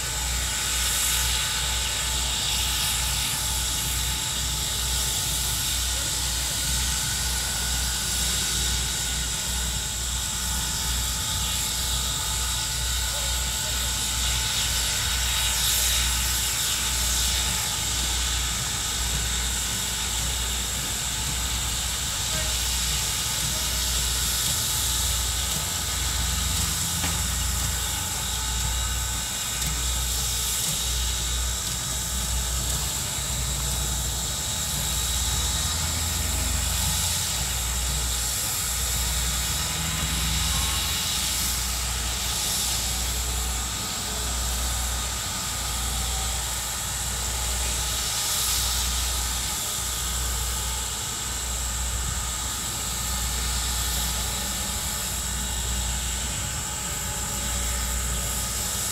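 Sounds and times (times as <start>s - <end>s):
steam hissing: 0.0s - 58.9s.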